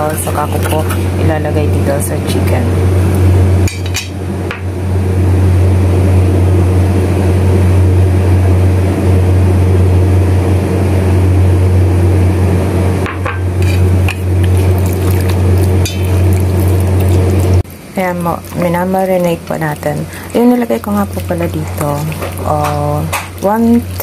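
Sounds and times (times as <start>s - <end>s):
loud low hum: 0.0s - 24.0s.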